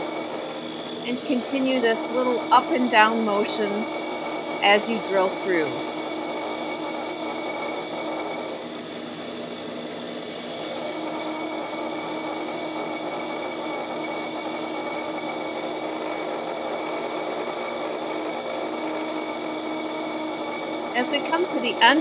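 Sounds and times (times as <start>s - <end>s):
drill grinding into glass: 0.0s - 22.0s
drill press motor hum: 0.0s - 22.0s.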